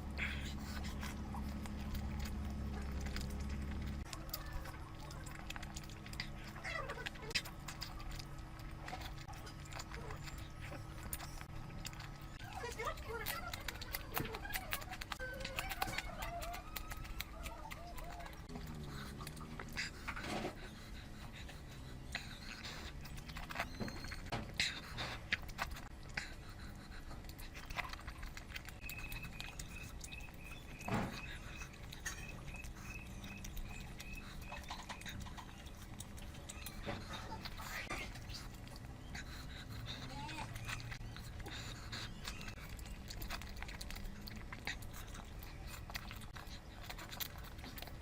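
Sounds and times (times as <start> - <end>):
low steady hum: 0.0 - 48.0
wet chewing and lip smacking: 0.0 - 48.0.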